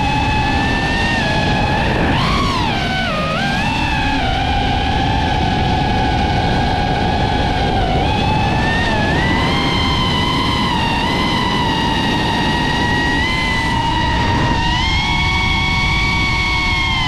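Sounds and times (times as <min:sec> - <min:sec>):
quadcopter motors whining: 0:00.0 - 0:17.0
wind rush: 0:00.0 - 0:17.0.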